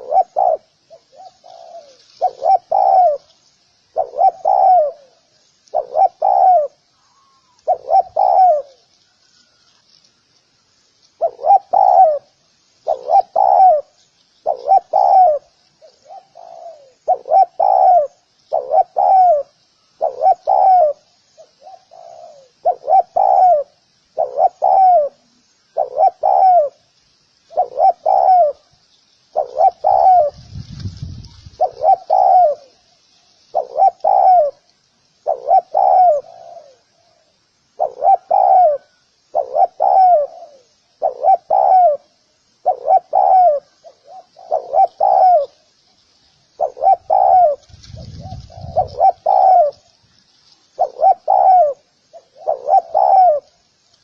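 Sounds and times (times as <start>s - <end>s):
dove cooing: 0.0s - 9.7s, 11.2s - 26.9s, 27.5s - 28.7s, 29.3s - 32.9s, 33.5s - 45.7s, 46.6s - 53.6s
faint high chirping hiss: 0.0s - 54.0s.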